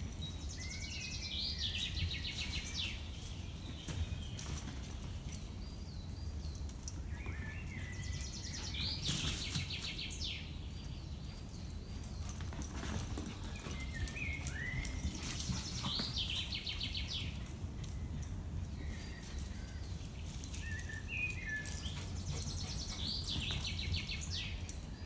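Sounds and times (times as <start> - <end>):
songbird chirps and trills: 0.0 - 25.0.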